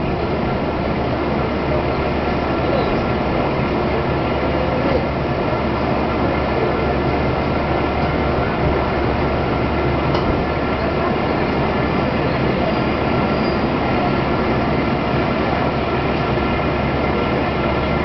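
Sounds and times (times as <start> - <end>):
faint engine drone: 0.0 - 18.0
railcar rumbling along track: 0.0 - 18.0.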